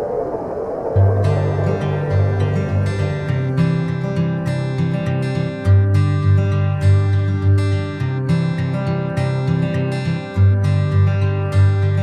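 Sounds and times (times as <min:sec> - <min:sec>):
deep sustained bass notes: 0:01.0 - 0:12.0
strummed acoustic guitar: 0:01.2 - 0:12.0.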